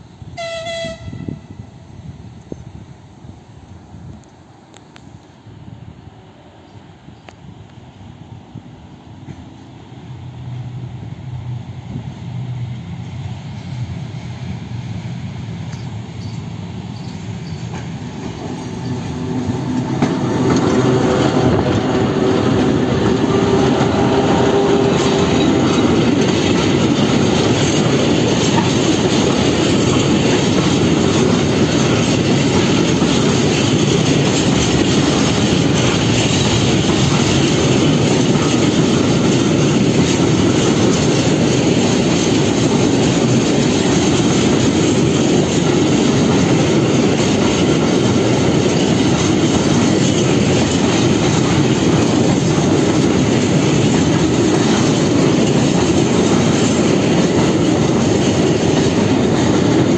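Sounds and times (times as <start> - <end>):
electric locomotive whine: 0.0 - 59.9
train wheels rolling on rails: 0.0 - 59.9.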